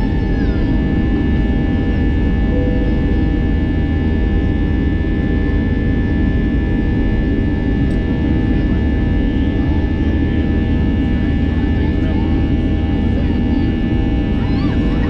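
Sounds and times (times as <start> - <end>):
jet engines droning in cabin: 0.0 - 15.0.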